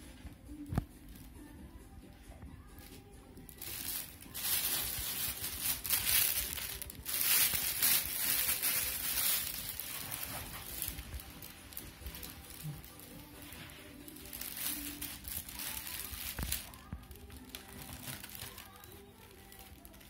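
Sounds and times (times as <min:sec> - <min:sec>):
plastic bag crinkling: 0:02.8 - 0:20.0.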